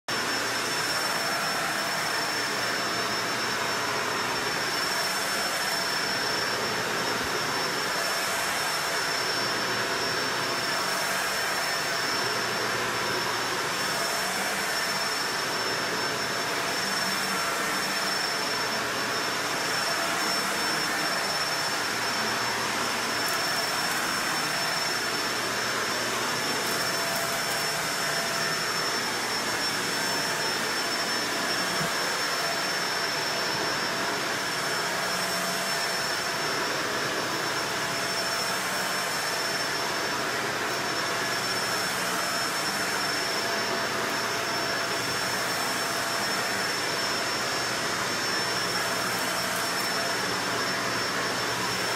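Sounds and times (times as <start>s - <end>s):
vacuum cleaner running on carpet: 0.1s - 51.9s.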